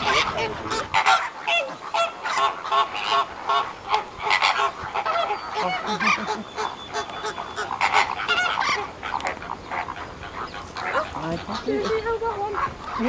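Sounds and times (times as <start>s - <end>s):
flamingos honking: 0.0s - 13.0s.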